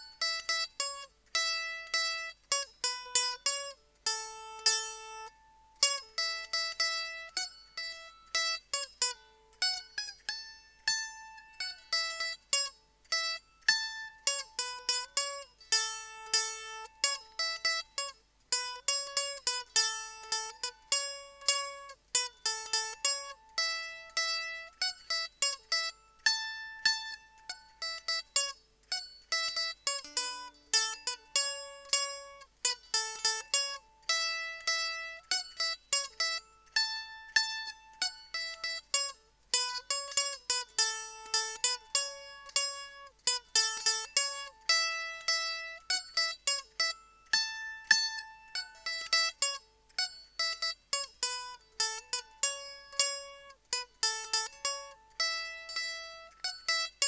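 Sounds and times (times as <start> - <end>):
mandolin picking a lively melody: 0.0 - 57.0.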